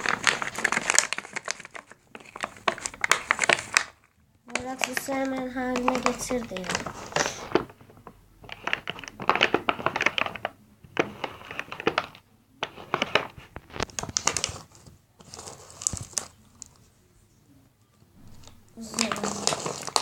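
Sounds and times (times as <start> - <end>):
slime squelching and crackling: 0.0 - 16.8, 18.2 - 20.0.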